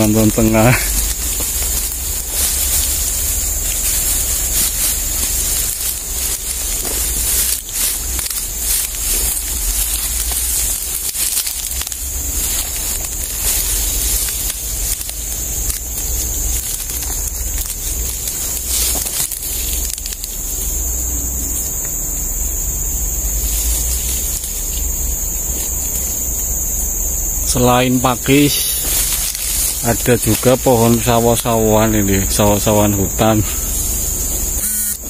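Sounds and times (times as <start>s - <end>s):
ferns rustling and snapping: 0.0s - 35.0s
steady high hiss: 0.0s - 35.0s.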